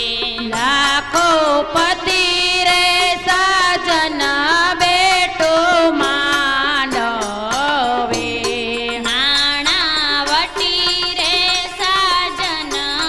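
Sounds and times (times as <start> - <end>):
musical accompaniment: 0.0 - 13.0
woman singing: 0.0 - 13.0.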